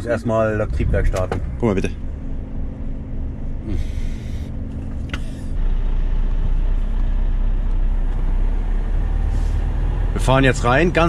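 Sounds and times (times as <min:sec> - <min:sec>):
truck diesel engine: 0:00.0 - 0:11.0.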